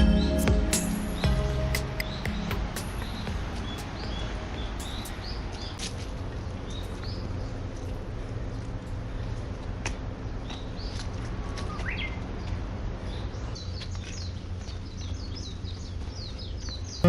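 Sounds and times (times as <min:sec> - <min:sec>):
birds chirping: 0:00.0 - 0:07.9, 0:08.5 - 0:17.0.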